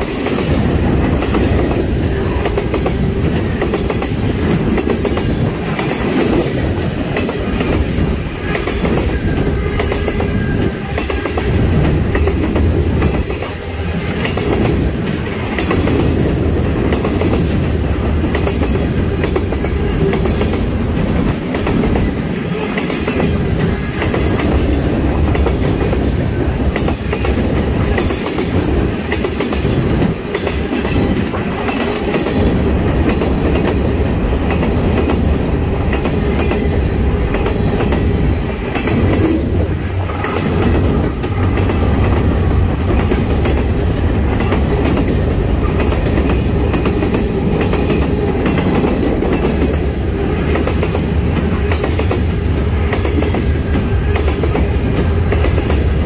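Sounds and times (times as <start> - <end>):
freight train cars rolling past: 0.0 - 56.0.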